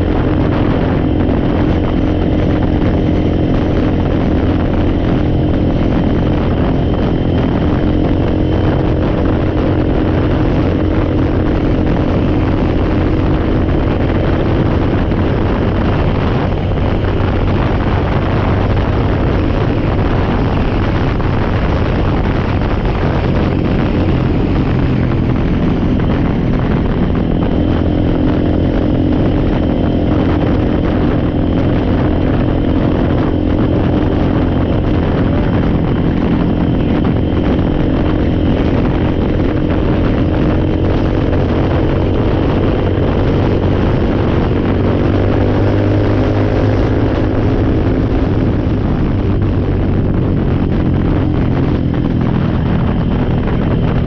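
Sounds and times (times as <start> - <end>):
atv engine running: 0.0 - 54.0
road and wind noise: 0.0 - 54.0.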